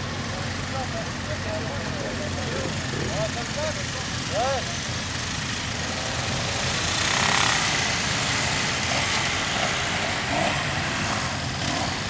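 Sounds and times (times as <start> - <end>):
motorcycle engines idling and revving: 0.0 - 12.0.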